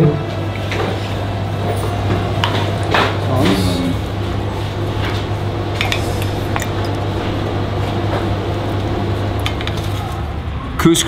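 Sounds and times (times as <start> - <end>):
loud steady low hum: 0.0 - 10.8.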